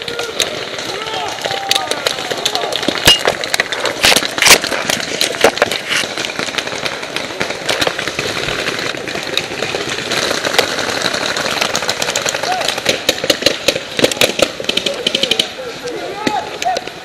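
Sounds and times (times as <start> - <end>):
paintball markers firing: 0.0 - 17.0.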